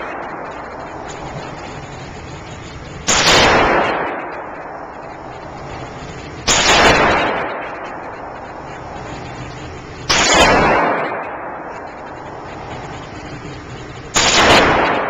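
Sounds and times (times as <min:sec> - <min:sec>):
revolver shots echoing: 0:00.0 - 0:15.0.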